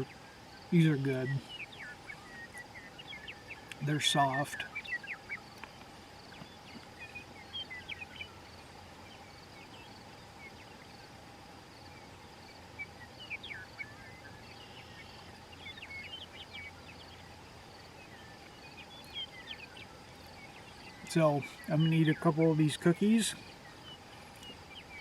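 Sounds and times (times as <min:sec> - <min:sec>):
birds singing chirpy phrases: 0:00.0 - 0:25.0
insect trill: 0:00.0 - 0:25.0.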